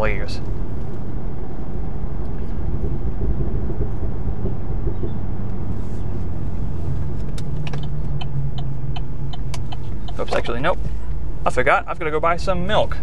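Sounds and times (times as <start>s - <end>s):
low engine drone: 0.0s - 13.0s
road noise: 0.0s - 13.0s.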